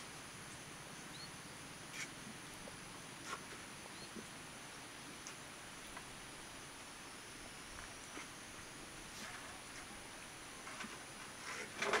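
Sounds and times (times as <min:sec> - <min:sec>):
faint steady background: 0:00.0 - 0:12.0.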